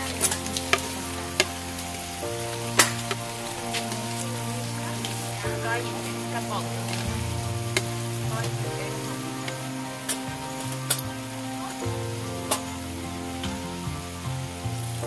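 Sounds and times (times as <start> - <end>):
background music: 0.0 - 15.0
stir-fry sizzling in a pan: 0.0 - 15.0.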